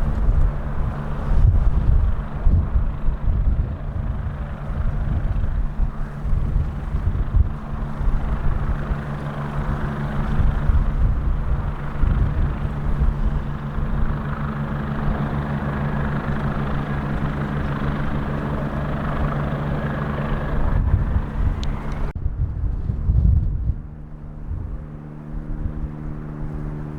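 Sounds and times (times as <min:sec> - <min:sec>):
jet engine rush and hum: 0:00.0 - 0:26.9
wind buffeting microphone: 0:00.0 - 0:26.9.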